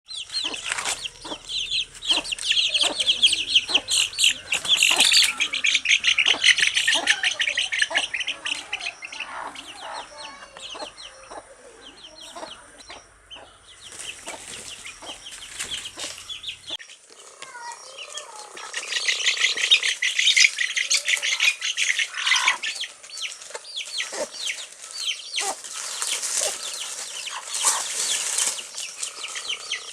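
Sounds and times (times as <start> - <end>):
chicks peeping: 0.1 - 29.9
hen clucking: 0.1 - 29.9.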